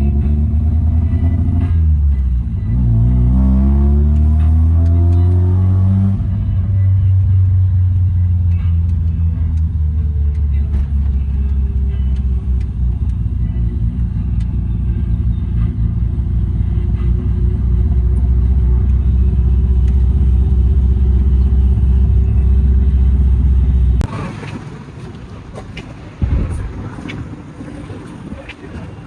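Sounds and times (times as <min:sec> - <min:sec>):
car engine low rumble: 0:00.0 - 0:29.0.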